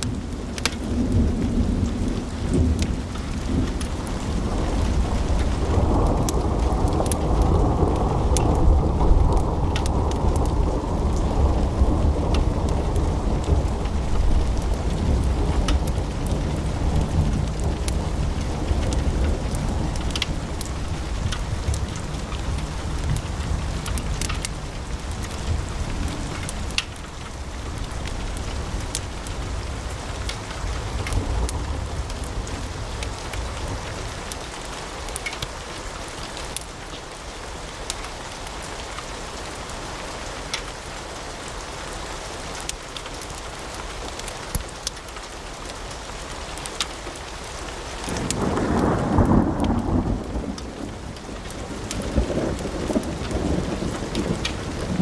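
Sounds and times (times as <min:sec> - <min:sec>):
fire crackles and pops: 0:00.0 - 0:55.0.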